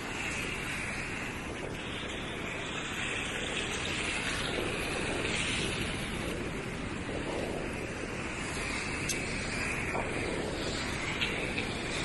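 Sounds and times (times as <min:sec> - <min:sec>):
ocean surf breaking on beach: 0:00.0 - 0:12.0
wind buffeting microphone: 0:00.0 - 0:12.0.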